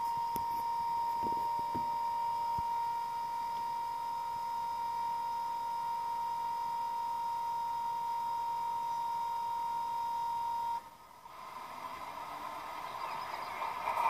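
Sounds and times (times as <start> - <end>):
pump whine through small speaker: 0.0 - 14.0.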